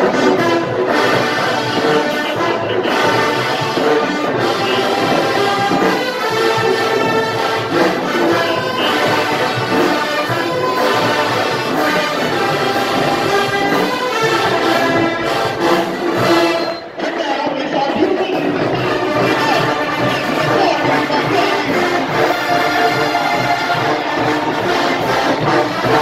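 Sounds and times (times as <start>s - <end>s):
brass marching band playing: 0.0s - 26.0s.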